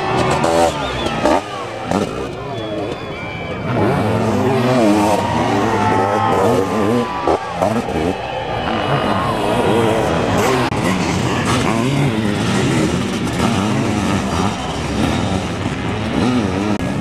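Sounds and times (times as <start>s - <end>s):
motorcycle engines revving hard: 0.0s - 17.0s.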